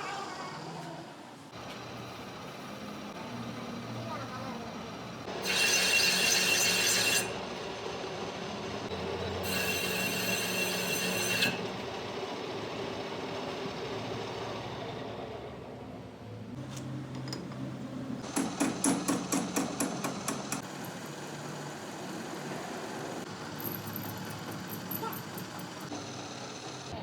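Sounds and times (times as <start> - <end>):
workshop machine hum: 1.1 - 27.0.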